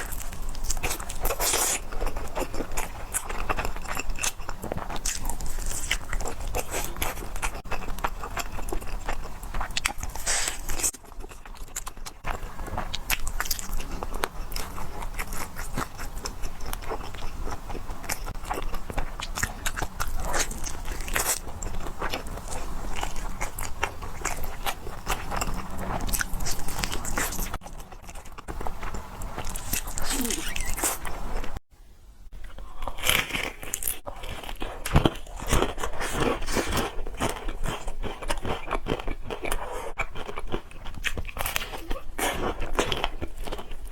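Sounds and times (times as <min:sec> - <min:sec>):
person chewing crunchy food: 0:00.0 - 0:31.6, 0:32.4 - 0:43.9.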